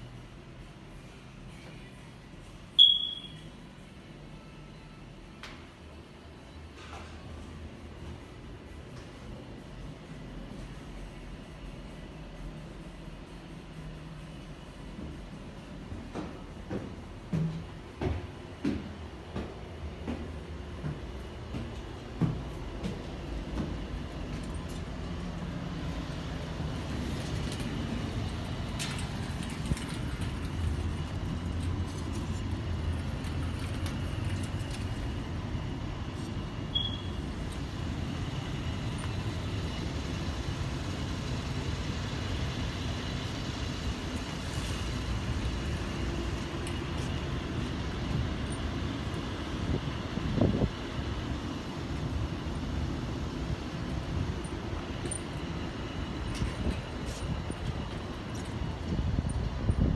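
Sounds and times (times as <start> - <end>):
city traffic rumble: 5.1 - 59.9.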